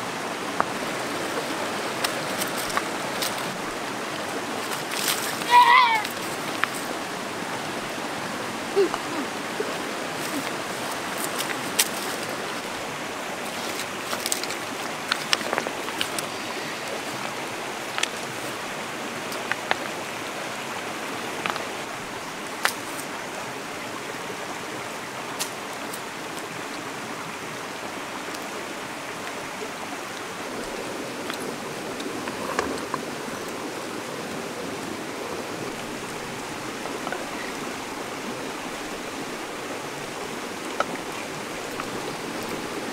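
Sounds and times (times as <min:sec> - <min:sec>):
river flowing over rocks: 0:00.0 - 0:42.9.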